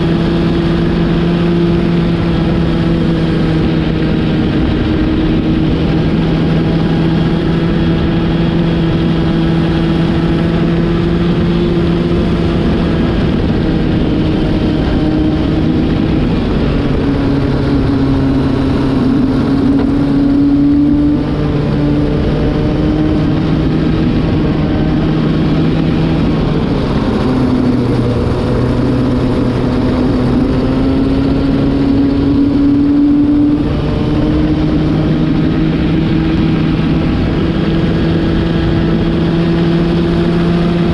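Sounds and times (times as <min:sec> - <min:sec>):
racing kart engine: 0:00.0 - 0:40.9.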